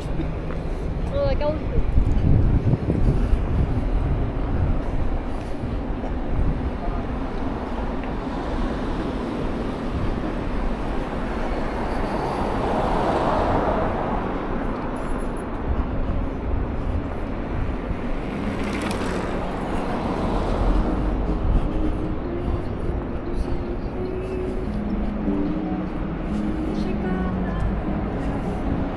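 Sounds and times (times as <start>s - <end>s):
city traffic rumble: 0.0s - 28.9s.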